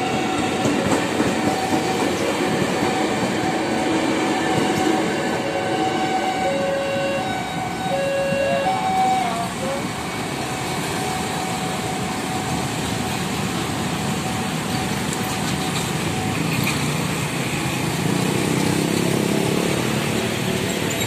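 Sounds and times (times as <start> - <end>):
motorcycle and scooter traffic: 1.3 - 21.0.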